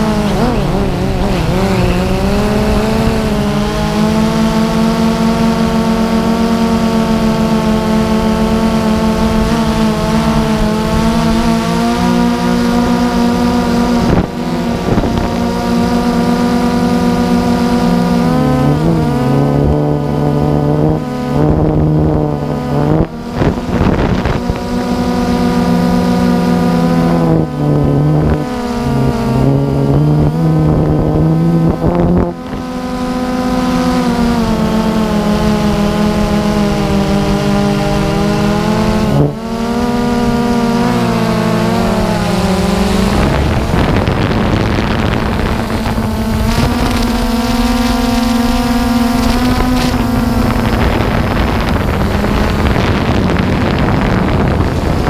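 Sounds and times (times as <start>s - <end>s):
drone propellers whining: 0.0s - 55.0s
wind buffeting: 0.0s - 55.0s.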